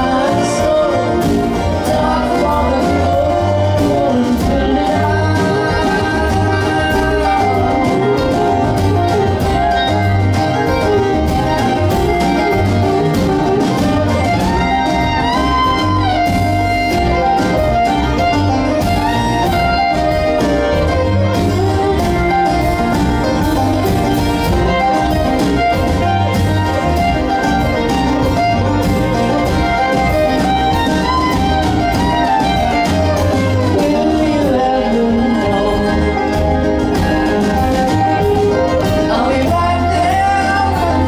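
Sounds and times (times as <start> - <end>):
acoustic string band playing: 0.0 - 41.0
fiddle: 0.0 - 41.0.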